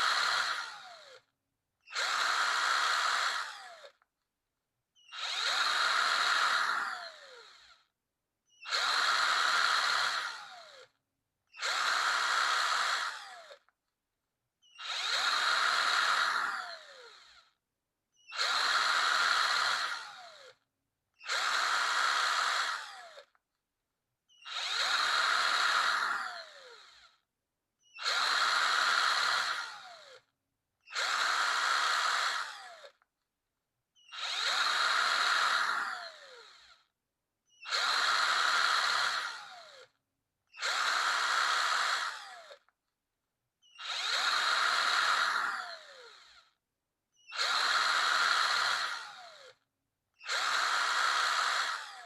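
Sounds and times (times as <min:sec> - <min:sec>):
electric drill spinning: 0:00.0 - 0:01.3, 0:01.9 - 0:04.1, 0:05.0 - 0:07.9, 0:08.5 - 0:13.8, 0:14.6 - 0:17.6, 0:18.2 - 0:23.4, 0:24.3 - 0:33.1, 0:34.0 - 0:36.9, 0:37.5 - 0:42.8, 0:43.6 - 0:46.6, 0:47.2 - 0:52.0.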